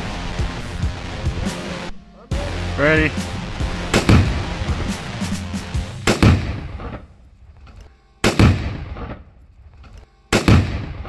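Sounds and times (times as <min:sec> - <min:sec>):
loud explosive blasts: 0:00.0 - 0:07.2, 0:08.2 - 0:09.3, 0:10.3 - 0:11.0.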